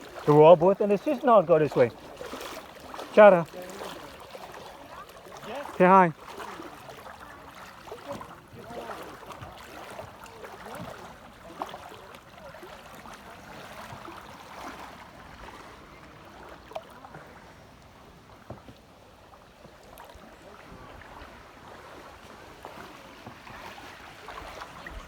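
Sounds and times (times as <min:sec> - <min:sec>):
river water lapping: 0:00.0 - 0:25.0.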